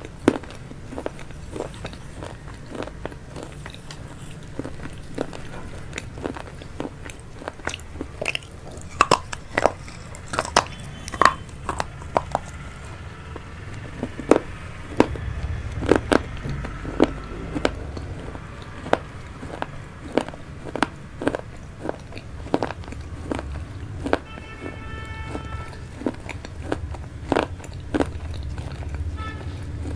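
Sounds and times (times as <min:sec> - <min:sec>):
wet chewing clicks and crunches: 0:00.0 - 0:29.9.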